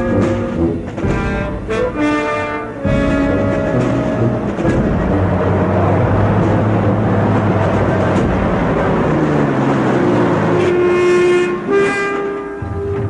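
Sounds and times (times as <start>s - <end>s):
held orchestral chord: 0.0s - 13.0s
truck engine running: 0.0s - 13.0s.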